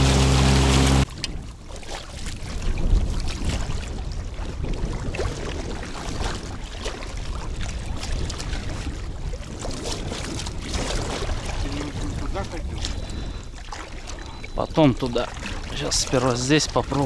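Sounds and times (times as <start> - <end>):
water lapping against boat: 0.0 - 17.0
wind buffeting microphone: 0.0 - 17.0.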